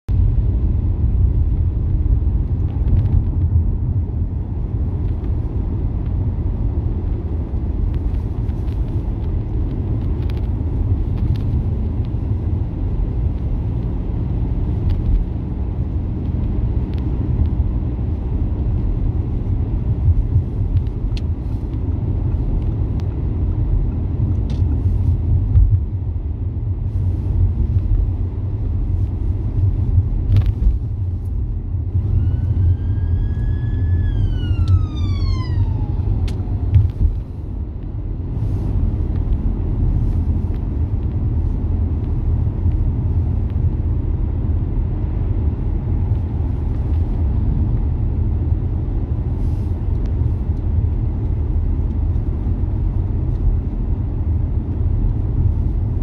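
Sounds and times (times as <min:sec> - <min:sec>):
car interior road and engine rumble: 0:00.1 - 0:56.0.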